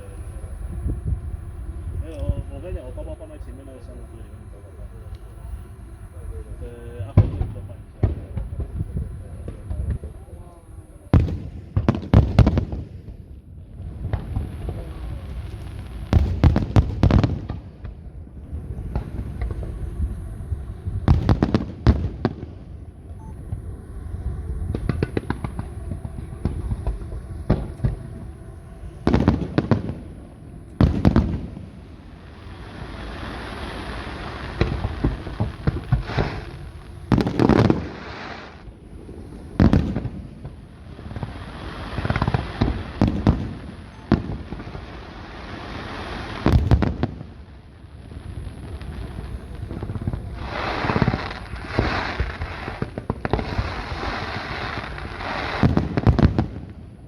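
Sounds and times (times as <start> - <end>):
fireworks booming overhead: 0.0 - 57.0.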